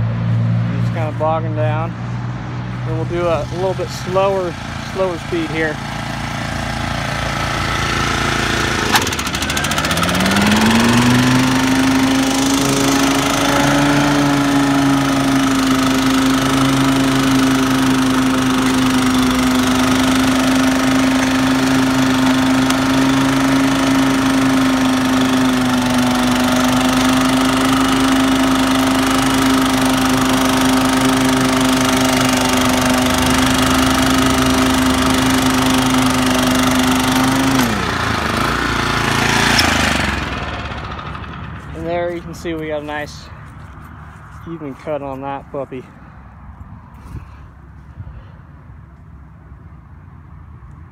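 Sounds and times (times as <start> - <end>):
lawn mower cutting long grass: 3.1 - 45.5.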